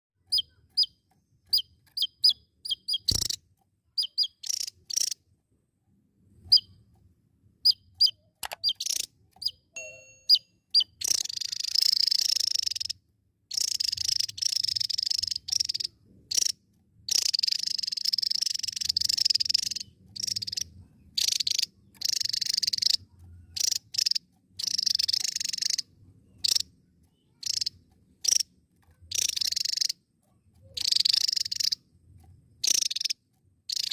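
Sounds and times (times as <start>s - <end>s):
bird chirping and twittering: 0.2s - 5.2s, 6.4s - 6.8s, 7.6s - 33.9s.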